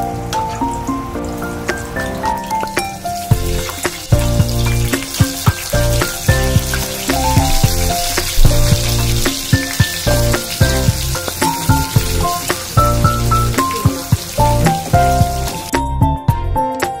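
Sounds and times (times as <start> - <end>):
garlic sizzling in hot oil: 0.0 - 15.8
background music with steady beat: 0.0 - 17.0.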